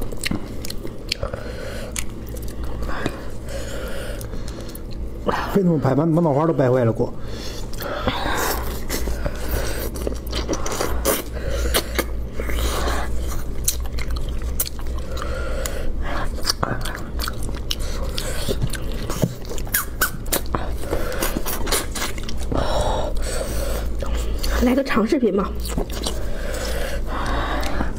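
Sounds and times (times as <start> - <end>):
chewing and smacking: 0.0 - 5.3, 7.6 - 27.9.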